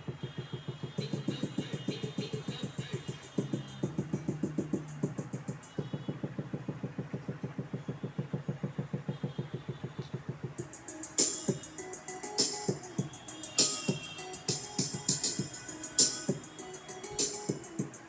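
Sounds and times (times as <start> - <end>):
bass-heavy electronic music: 0.0 - 18.0.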